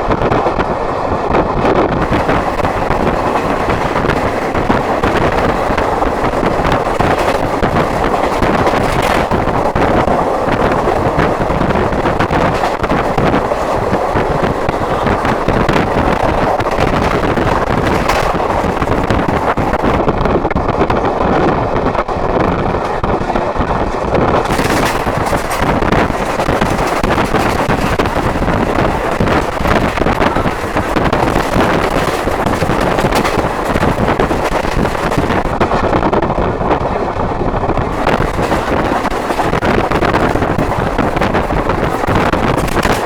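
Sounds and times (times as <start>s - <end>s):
train running noise: 0.0s - 43.0s
wind buffeting microphone: 0.0s - 43.0s.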